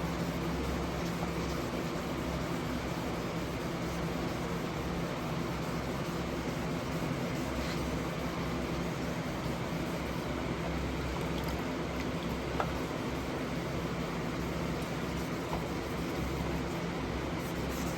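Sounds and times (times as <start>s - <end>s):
mechanical hum with hiss: 0.0s - 17.9s.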